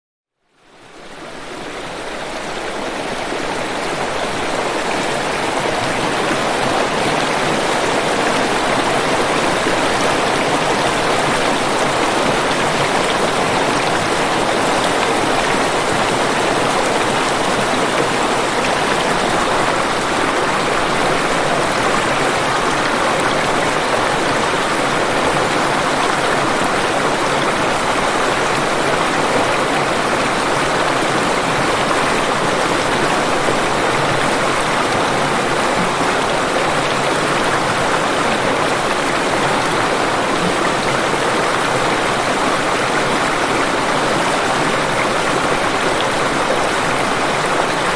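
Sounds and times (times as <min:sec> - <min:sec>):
waterfall rushing: 0:00.7 - 0:47.9.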